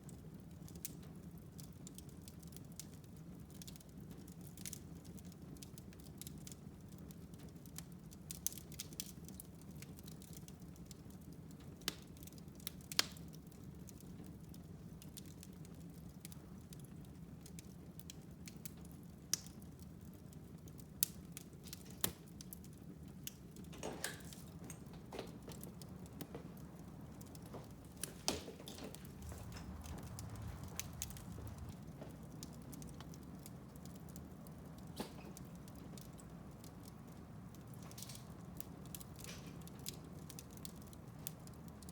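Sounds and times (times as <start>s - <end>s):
fire crackling and popping: 0.0s - 41.9s
low rumble of burning fire: 0.0s - 41.9s.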